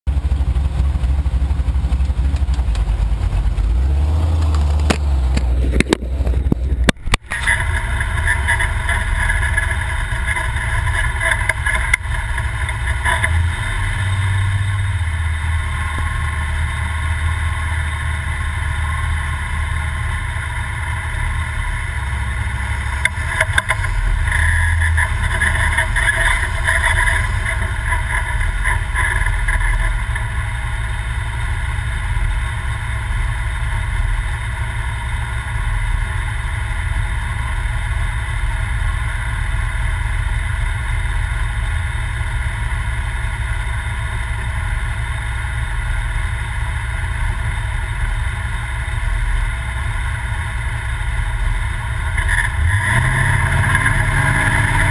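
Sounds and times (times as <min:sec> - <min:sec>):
truck engine rumble: 0:00.0 - 0:54.9.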